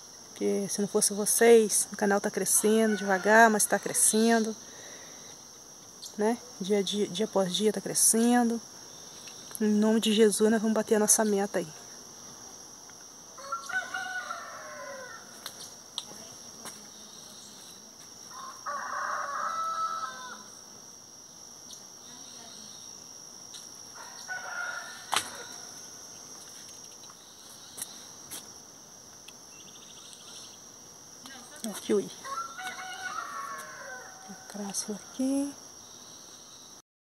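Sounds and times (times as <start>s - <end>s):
high-pitched insect drone: 0.0s - 36.8s.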